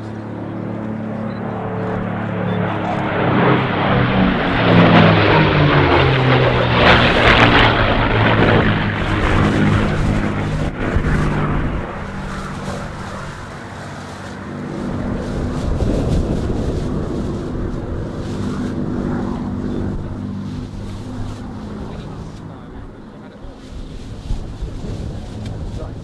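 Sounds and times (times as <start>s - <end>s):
propeller plane flying past: 0.0s - 26.0s.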